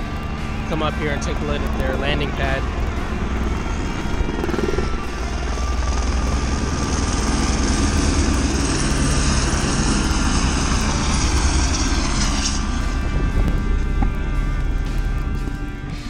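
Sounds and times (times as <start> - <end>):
helicopter rotor and engine: 0.0 - 16.0
thin high whine: 0.0 - 16.0.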